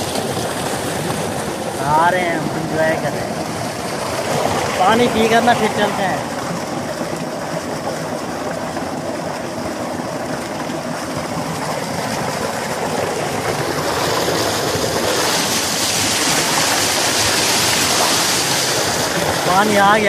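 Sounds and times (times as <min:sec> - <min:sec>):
water gushing into a tank: 0:00.0 - 0:20.0.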